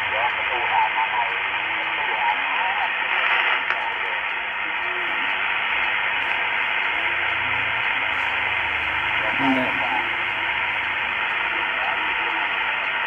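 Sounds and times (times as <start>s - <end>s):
faint garbled radio voices: 0.0s - 13.0s
radio static hiss: 0.0s - 13.0s.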